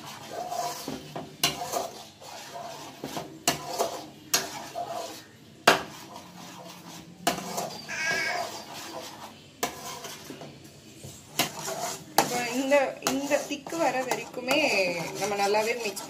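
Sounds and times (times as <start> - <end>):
ladle stirring and scraping pan: 0.0 - 16.0.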